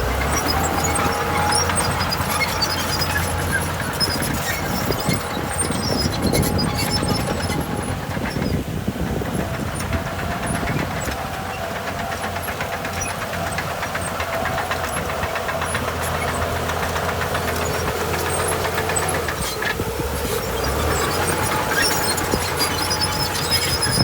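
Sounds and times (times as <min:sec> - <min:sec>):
diesel engine rumbling: 0:00.0 - 0:24.0
fast even clatter: 0:00.0 - 0:24.0.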